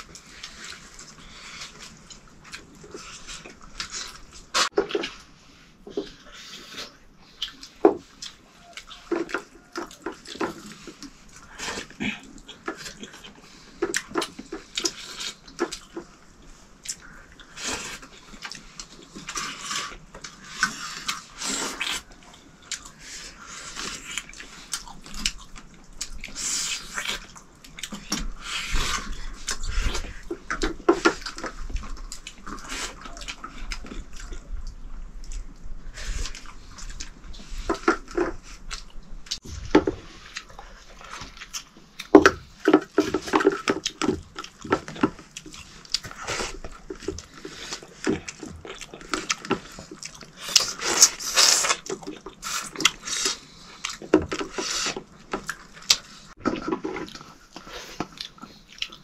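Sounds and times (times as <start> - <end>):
people eating and crunching: 0.0 - 59.0.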